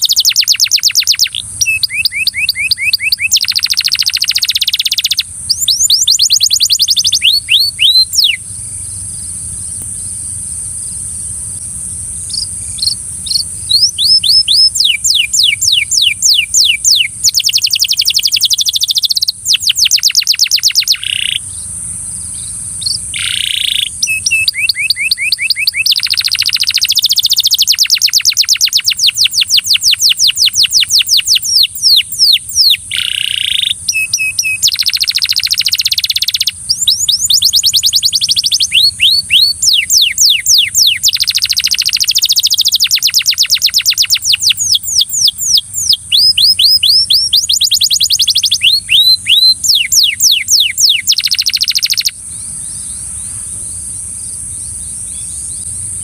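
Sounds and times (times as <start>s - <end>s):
canary singing trills: 0.0s - 56.0s
steady high hiss: 0.0s - 56.0s.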